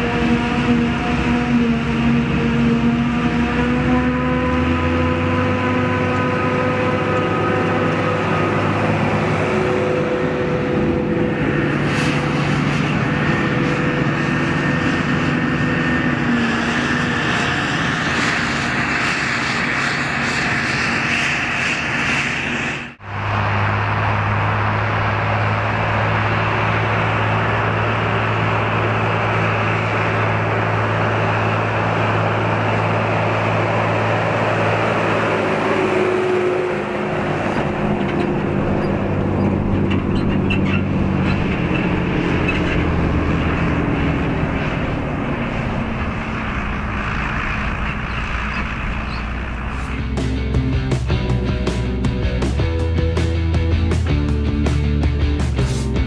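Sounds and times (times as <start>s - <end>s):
forage harvester engine whining: 0.0s - 56.0s
tractor engine droning: 0.0s - 56.0s.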